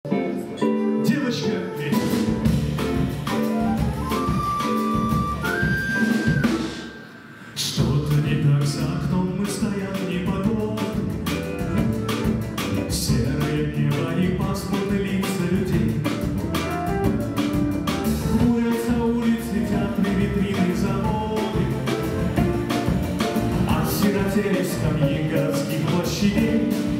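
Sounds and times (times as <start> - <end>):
live band playing: 0.1 - 26.9.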